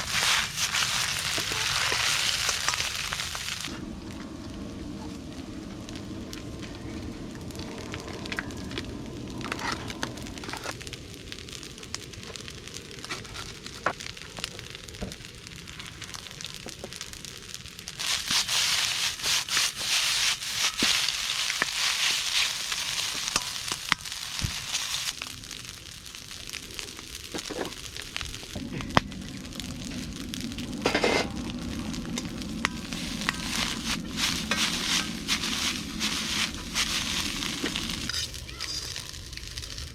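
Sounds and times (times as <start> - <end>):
food sizzling in a wok: 0.0 - 39.9
wood fire crackling: 0.0 - 39.9.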